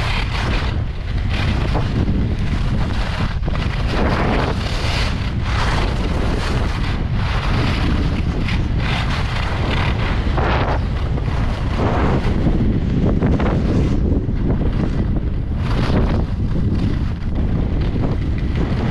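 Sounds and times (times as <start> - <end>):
skis scraping on snow: 0.0 - 18.9
wind buffeting microphone: 0.0 - 18.9.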